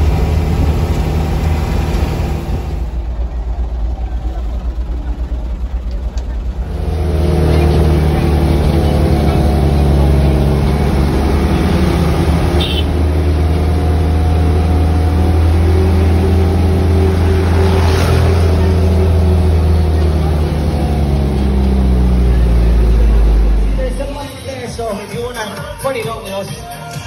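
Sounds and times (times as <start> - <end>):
engine droning: 0.0 - 24.7.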